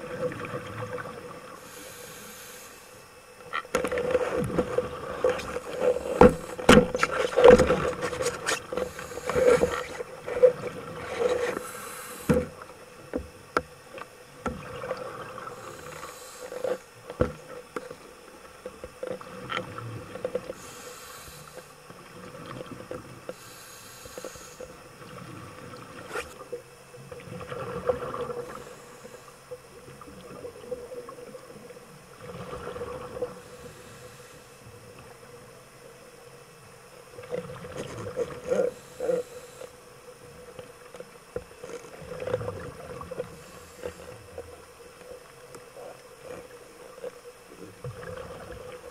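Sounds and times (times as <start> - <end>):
breathing gear hiss and bubbling: 0.0 - 13.4, 14.5 - 35.6, 37.2 - 48.9
underwater hum: 0.0 - 48.9.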